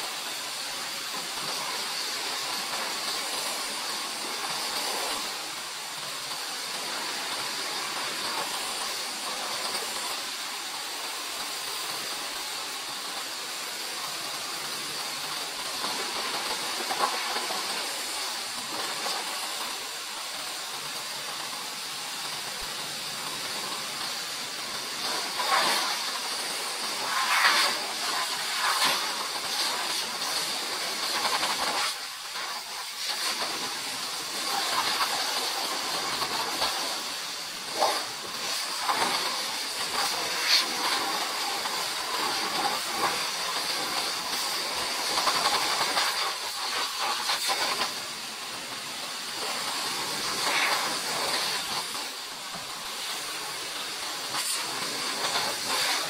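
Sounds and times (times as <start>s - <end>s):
pressure washer spraying: 0.0s - 56.0s
water drumming on wheel: 0.1s - 56.0s.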